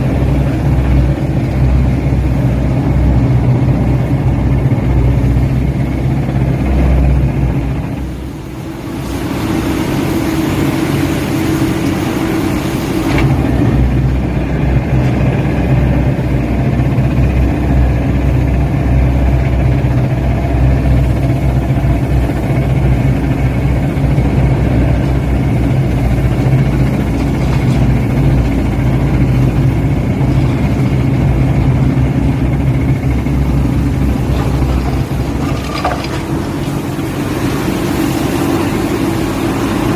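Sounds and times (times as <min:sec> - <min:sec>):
drilling rig humming: 0:00.0 - 0:39.9.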